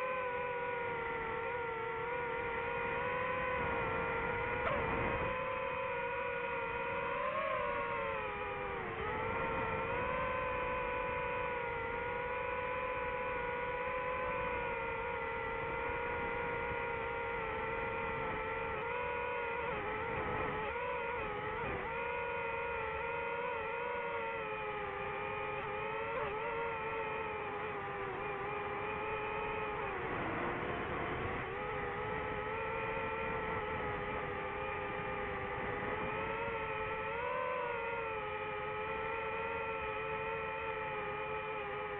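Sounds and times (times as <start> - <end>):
drone motors whining: 0.0 - 41.9.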